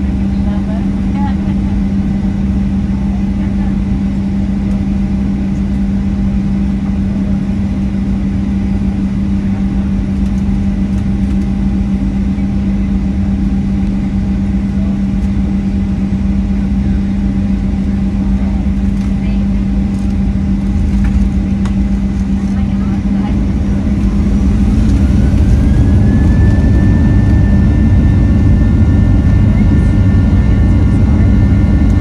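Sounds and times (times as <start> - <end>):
airplane cabin jet engine hum: 0.0 - 32.0.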